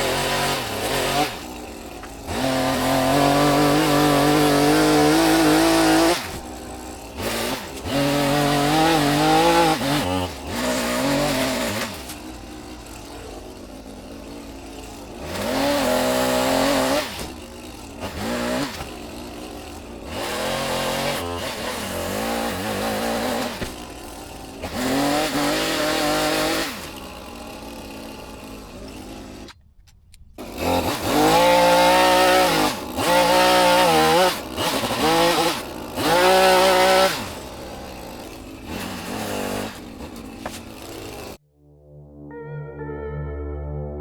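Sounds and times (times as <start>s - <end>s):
two-stroke engine revving: 0.0s - 29.6s, 30.4s - 41.4s.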